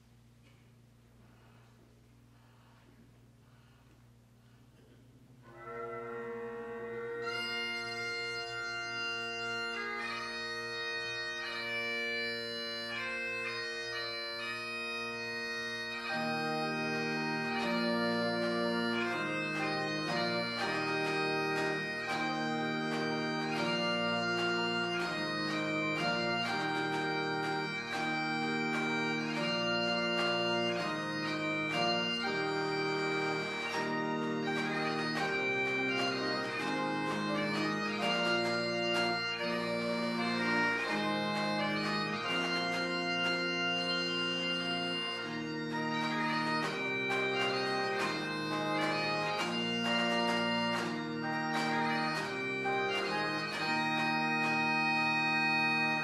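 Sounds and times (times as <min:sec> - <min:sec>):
low sustained chords: 0:04.4 - 0:56.0
bagpipe chanter melody: 0:05.4 - 0:56.0
bagpipe drone: 0:05.4 - 0:56.0.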